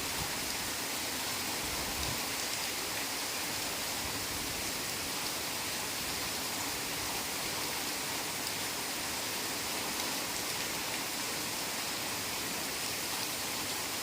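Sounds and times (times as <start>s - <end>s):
heavy rain on foliage: 0.0s - 14.0s.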